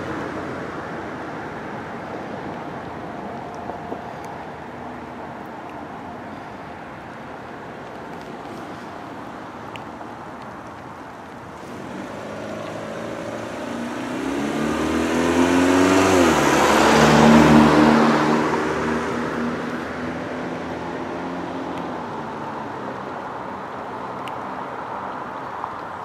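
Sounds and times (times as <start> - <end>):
car engine hum: 0.0 - 26.0
tyres hissing on wet road: 0.0 - 26.0.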